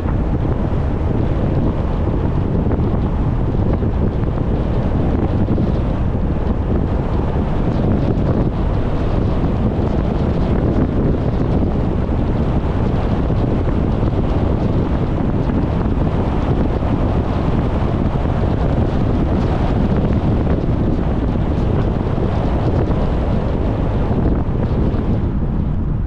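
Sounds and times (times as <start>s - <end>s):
car road and wind noise: 0.0s - 26.0s.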